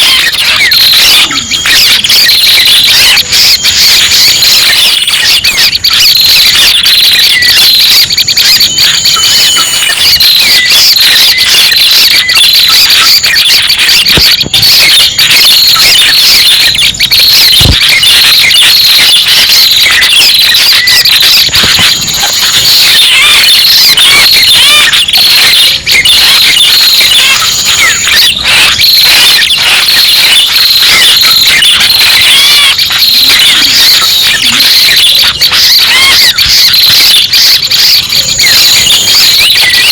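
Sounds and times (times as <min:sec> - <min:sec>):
rapid high bird chirps and trills: 0:00.0 - 0:36.4.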